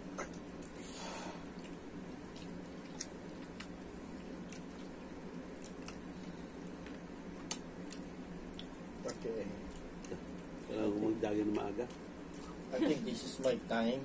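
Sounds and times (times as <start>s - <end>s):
people chewing food: 0.0s - 13.6s
low room hum: 0.0s - 14.0s.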